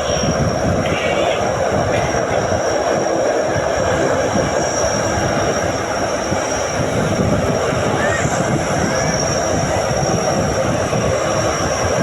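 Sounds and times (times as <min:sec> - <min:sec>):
turboprop aircraft engines roaring: 0:00.0 - 0:12.0.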